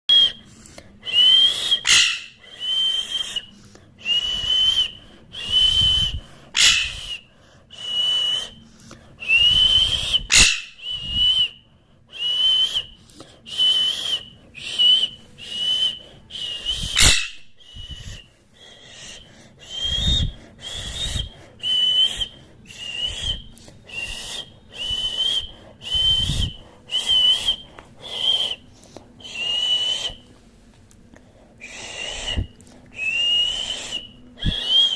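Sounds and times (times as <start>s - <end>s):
parrot whistling: 0.1s - 0.4s, 1.0s - 8.6s, 9.2s - 30.3s, 31.6s - 34.9s.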